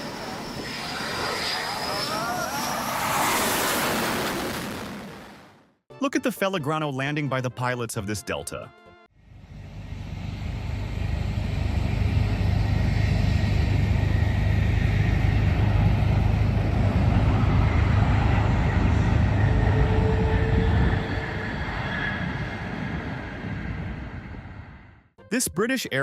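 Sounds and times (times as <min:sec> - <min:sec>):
jet airliner landing rumble: 0:00.0 - 0:05.6, 0:09.3 - 0:25.1.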